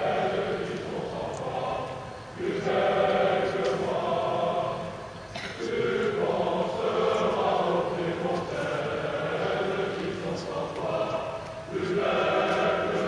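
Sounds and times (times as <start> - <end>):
group of men singing: 0.0 - 13.0.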